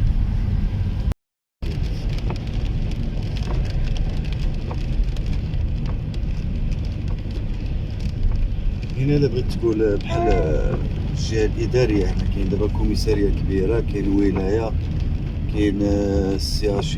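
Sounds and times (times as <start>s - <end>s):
road and engine rumble in car: 0.0s - 16.9s
raindrops ticking on windscreen: 1.6s - 16.9s.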